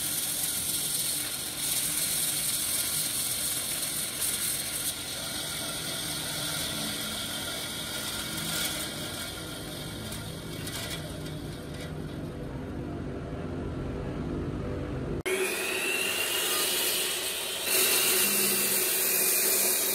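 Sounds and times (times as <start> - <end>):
blade rasping through wood: 0.0 - 12.1, 15.3 - 19.9
band saw running: 0.0 - 12.6, 15.3 - 19.9.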